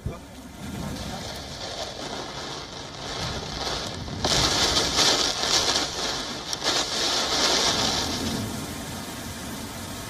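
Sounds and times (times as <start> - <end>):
torrential rain: 0.0 - 10.0.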